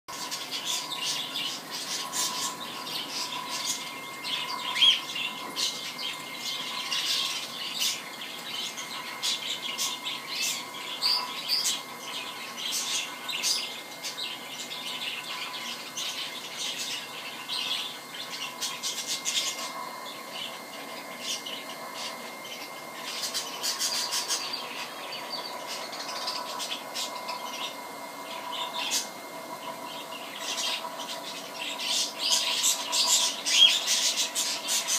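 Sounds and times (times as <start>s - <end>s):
faint steady high tone: 0.1s - 33.6s
birds chirping and squawking: 0.1s - 34.9s.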